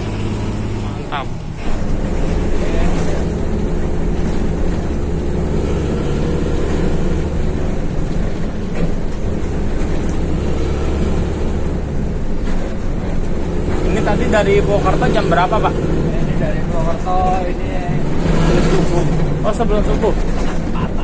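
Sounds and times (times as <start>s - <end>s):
bus diesel engine drone: 0.0s - 21.0s
road rumble: 0.0s - 21.0s.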